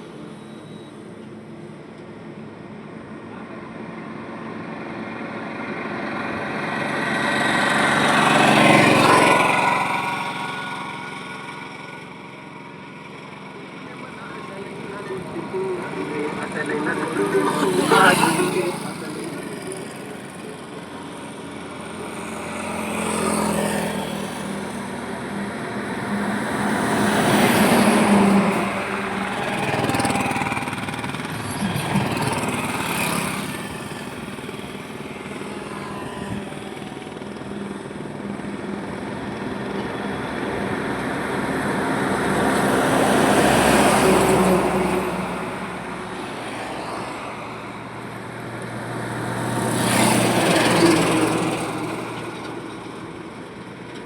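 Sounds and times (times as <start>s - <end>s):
highway vehicles passing: 0.0s - 54.0s.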